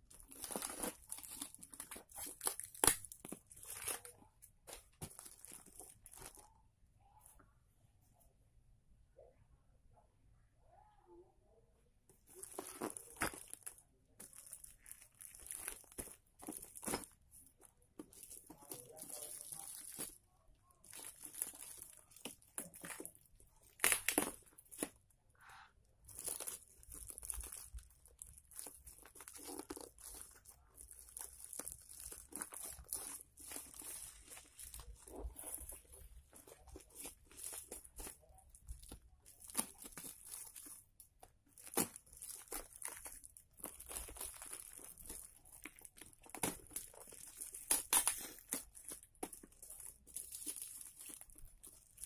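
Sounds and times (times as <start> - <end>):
plastic packaging crinkling and ripping: 0.0 - 6.5, 12.2 - 25.1, 26.0 - 52.0.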